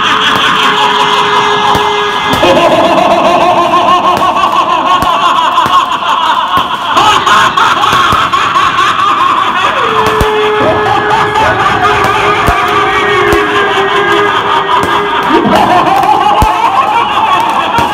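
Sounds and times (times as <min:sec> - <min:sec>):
loud crowd voices: 0:00.0 - 0:17.9.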